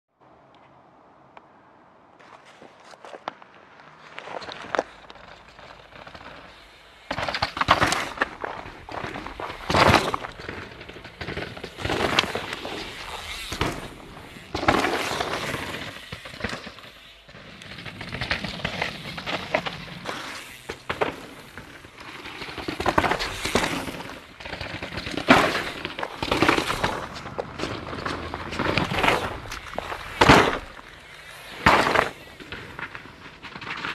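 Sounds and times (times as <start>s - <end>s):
bike tyres crunching over gravel: 2.1s - 33.9s.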